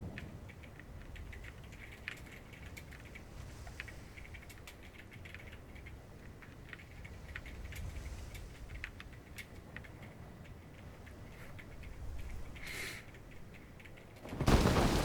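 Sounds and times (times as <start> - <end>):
light ticking and pattering: 0.0 - 15.0.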